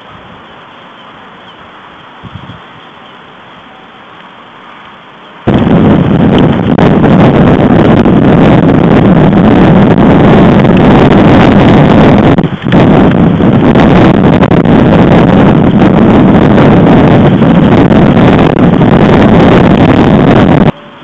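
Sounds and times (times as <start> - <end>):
wind rumbling on microphone: 0.0 - 3.1, 5.4 - 21.0.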